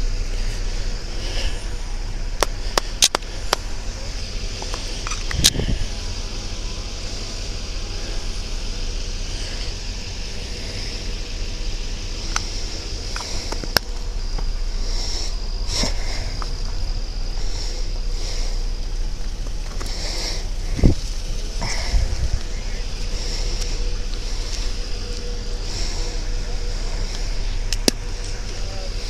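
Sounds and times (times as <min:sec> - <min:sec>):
faint high whine: 0:00.0 - 0:29.0
wind and handling rumble: 0:00.0 - 0:29.0.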